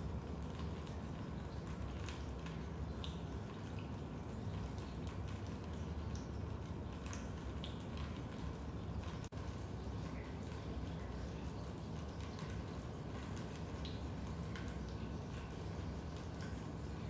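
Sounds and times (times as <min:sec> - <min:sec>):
water dripping: 0:00.0 - 0:17.0.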